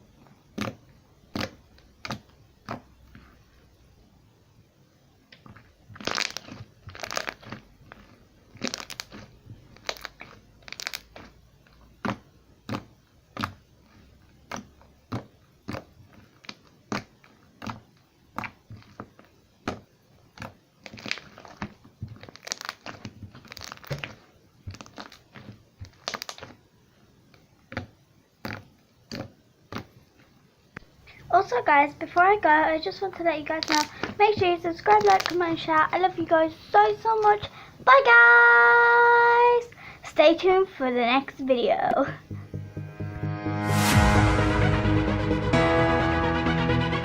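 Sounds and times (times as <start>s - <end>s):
slime squelching by hand: 0.3s - 3.9s, 5.3s - 42.5s.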